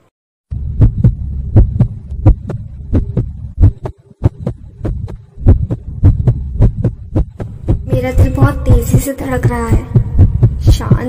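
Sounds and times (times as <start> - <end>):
fast heartbeat thumping: 0.5 - 11.0
low hum: 0.5 - 11.0.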